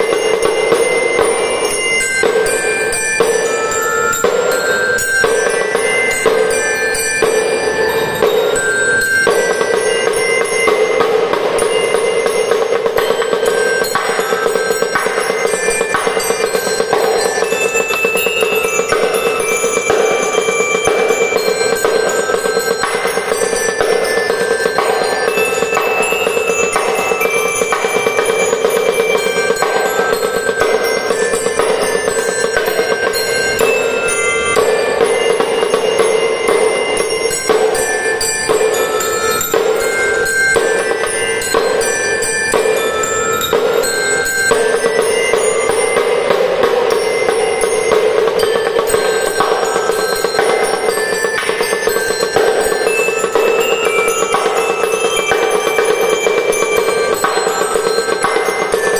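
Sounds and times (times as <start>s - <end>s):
bell lyre melody: 0.0s - 58.9s
drum and lyre band music: 0.0s - 58.9s.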